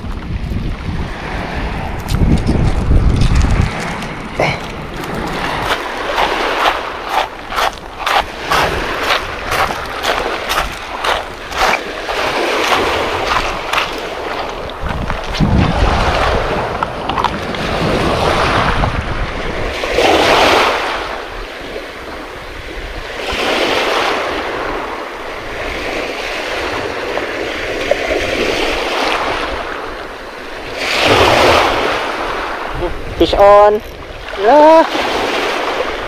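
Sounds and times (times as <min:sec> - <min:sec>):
wind rumbling on microphone: 0:00.0 - 0:36.0
waves washing up a pebble beach: 0:00.2 - 0:36.0.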